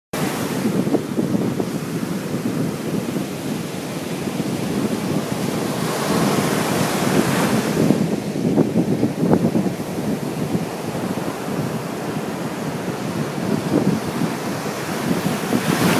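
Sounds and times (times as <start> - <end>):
surf breaking on beach: 0.2 - 15.9.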